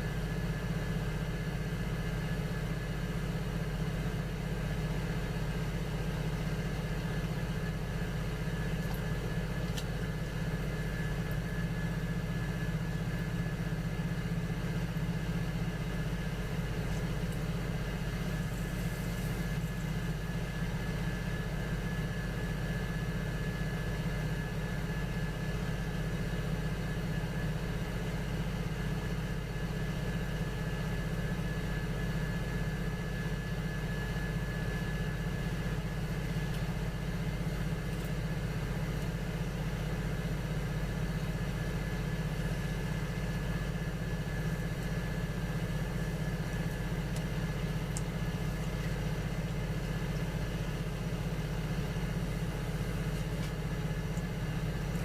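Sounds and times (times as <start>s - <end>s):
potter's wheel motor hum: 0.0s - 55.0s.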